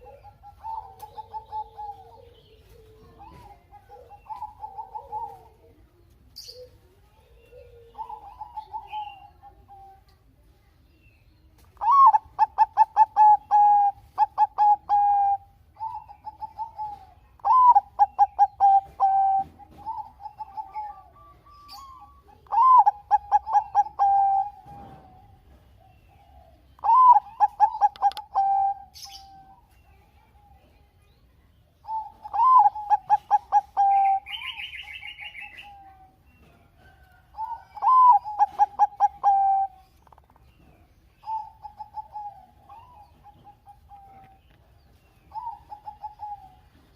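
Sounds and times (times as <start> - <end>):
dove cooing: 0.0 - 10.2, 11.8 - 30.9, 31.8 - 46.9
soft dove calls: 0.0 - 10.2, 11.7 - 30.9, 31.8 - 46.9.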